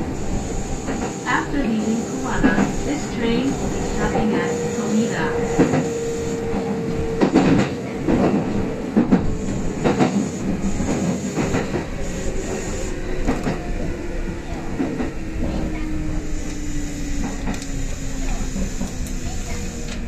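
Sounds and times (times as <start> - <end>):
low train motor tone: 0.0 - 20.0.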